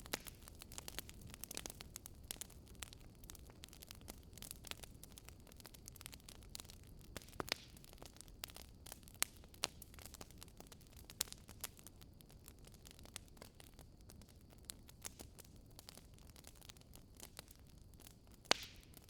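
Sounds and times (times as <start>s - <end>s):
soft hiss of fire: 0.0s - 19.0s
wood fire crackling: 0.0s - 19.0s.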